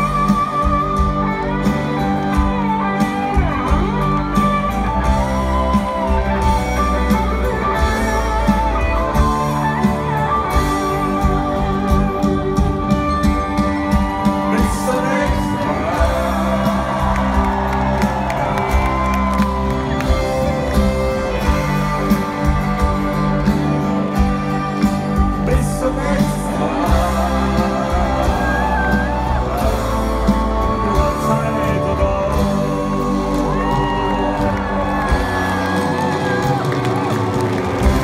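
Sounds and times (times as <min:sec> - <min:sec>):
crowd whooping: 0:00.0 - 0:38.0
live band with singer: 0:00.0 - 0:38.0.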